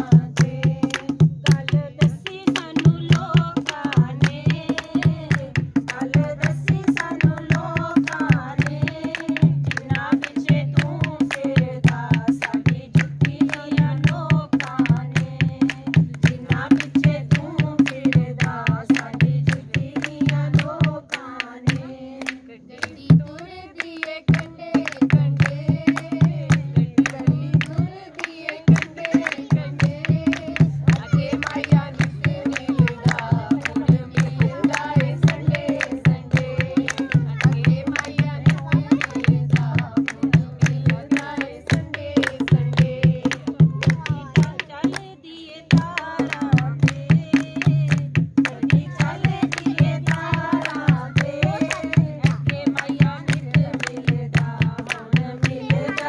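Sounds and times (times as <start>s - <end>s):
hand drum fast beat: 0.0s - 22.0s, 24.1s - 56.0s
women singing folk song: 0.0s - 56.0s.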